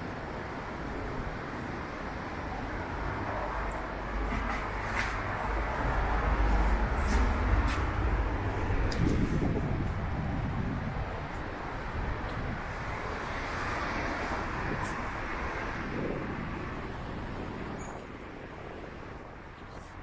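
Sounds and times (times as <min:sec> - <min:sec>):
traffic rumble with hiss: 0:00.0 - 0:20.0.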